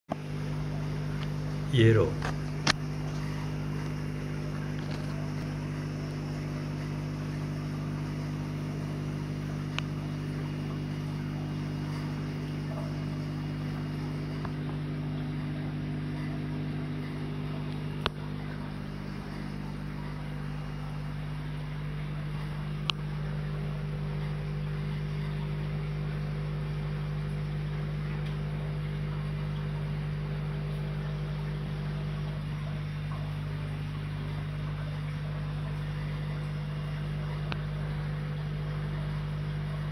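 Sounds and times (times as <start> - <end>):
low machine hum: 0.1 - 39.9.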